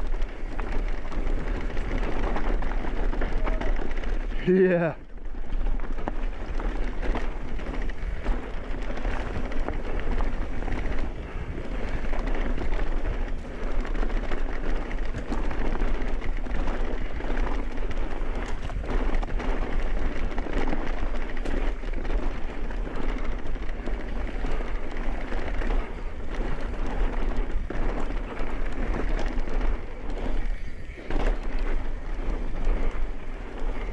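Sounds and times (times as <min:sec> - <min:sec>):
bike rattles and knocks: 0:00.0 - 0:33.9
low wind rumble on microphone: 0:00.0 - 0:33.9.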